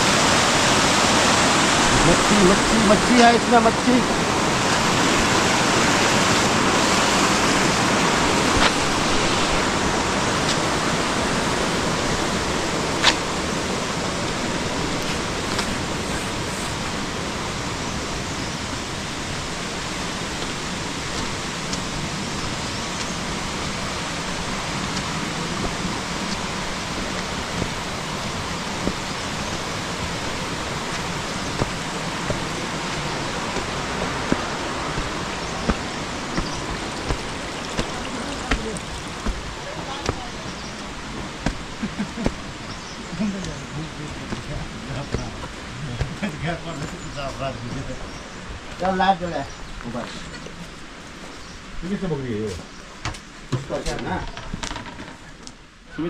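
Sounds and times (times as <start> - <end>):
stream rushing over rocks: 0.0 - 52.2.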